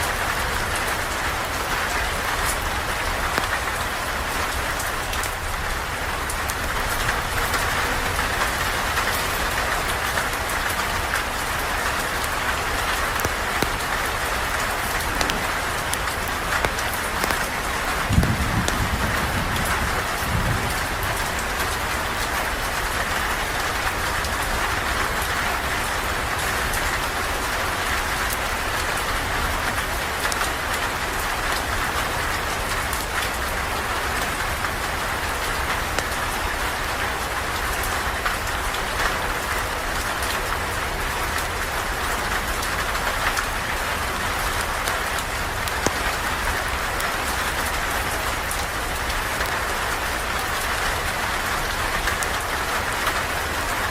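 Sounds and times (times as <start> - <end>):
campfire crackles: 0.0 - 40.4, 41.2 - 53.9
steady rain falling: 0.0 - 53.9.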